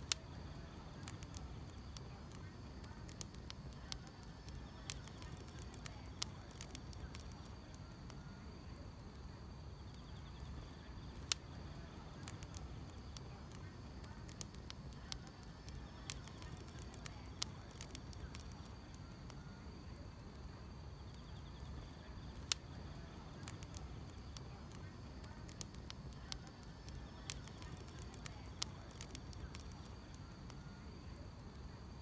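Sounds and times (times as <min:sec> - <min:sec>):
wood fire crackling and popping: 0:00.0 - 0:08.3, 0:09.0 - 0:31.7.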